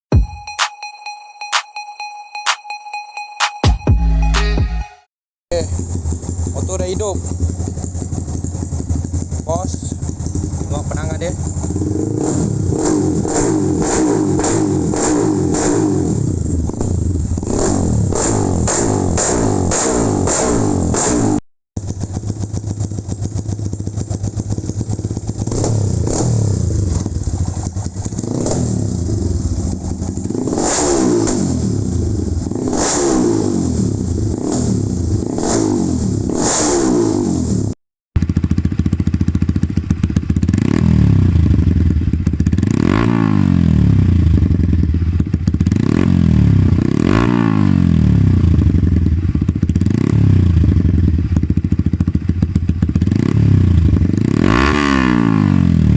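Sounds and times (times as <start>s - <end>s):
motorcycle exhaust idling and revving: 5.5s - 55.9s.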